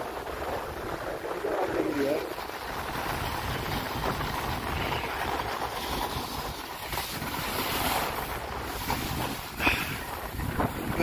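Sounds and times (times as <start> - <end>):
skis sliding over snow: 0.0 - 11.0
wind buffeting microphone: 0.0 - 11.0.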